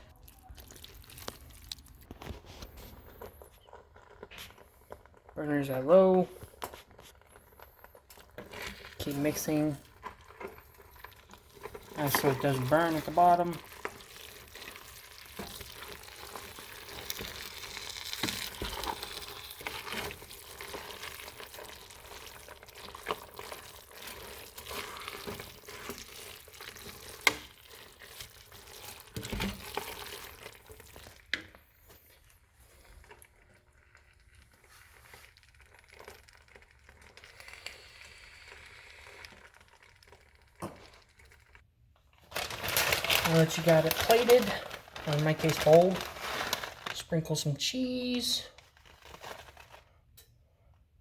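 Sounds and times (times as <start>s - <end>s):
utensil stirring food in a pan: 0.0s - 46.9s.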